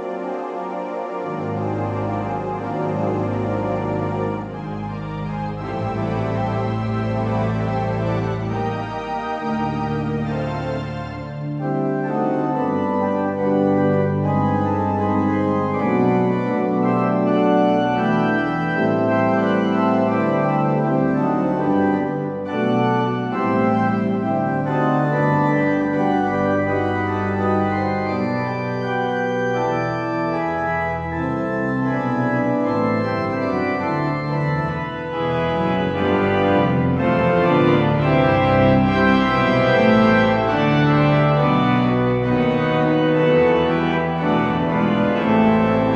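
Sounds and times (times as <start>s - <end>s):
organ playing sustained chords: 0.0s - 45.9s.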